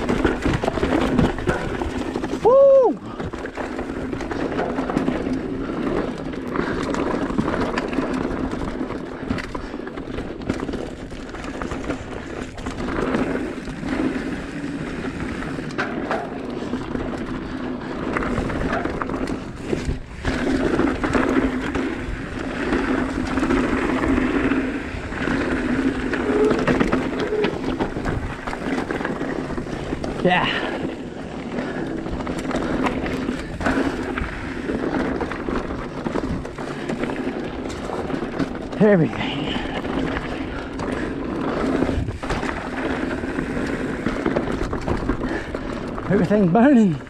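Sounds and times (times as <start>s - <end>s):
bike rattling over rocks: 0.0s - 47.0s
bike tyres on rocky trail: 0.0s - 47.0s.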